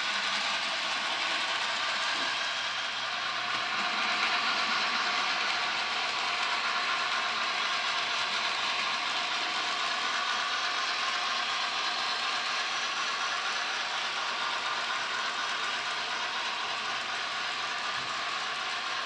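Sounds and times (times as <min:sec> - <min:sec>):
model train motor whirring: 0:00.0 - 0:19.0
wheels rolling on track: 0:00.0 - 0:19.0.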